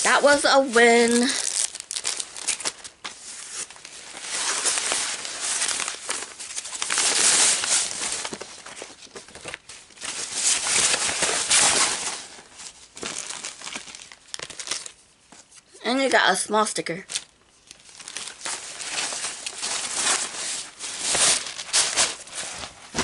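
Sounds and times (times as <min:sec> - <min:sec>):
packaging crinkling and rustling: 0:00.0 - 0:15.7, 0:17.1 - 0:23.0.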